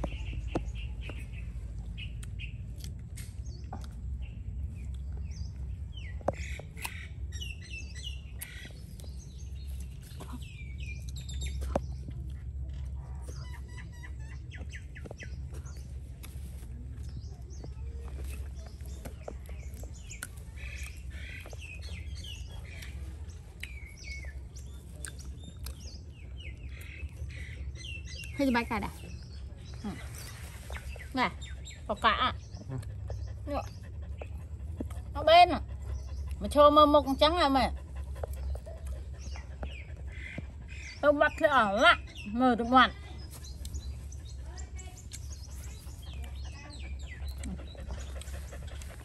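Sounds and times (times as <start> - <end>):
small birds chirping: 0.0 - 49.0
steady low rumble: 0.0 - 49.0.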